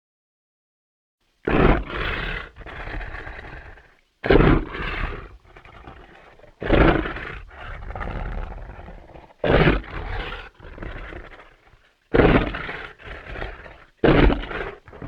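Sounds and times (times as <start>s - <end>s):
dinosaur roars: 1.5s - 15.0s.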